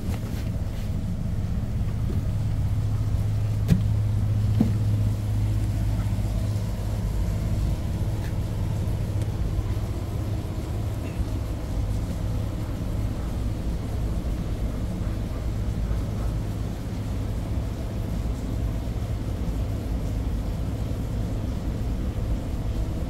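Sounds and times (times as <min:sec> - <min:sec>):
ship machinery drone: 0:00.0 - 0:23.0.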